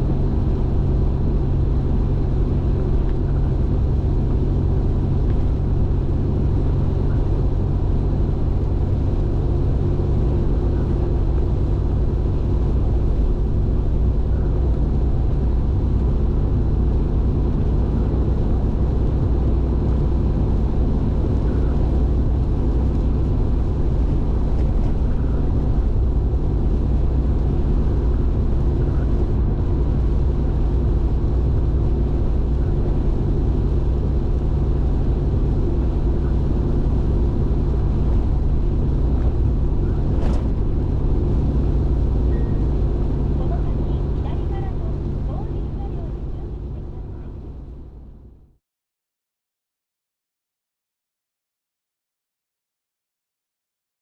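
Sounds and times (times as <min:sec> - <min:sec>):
car road and engine noise: 0:00.0 - 0:48.6.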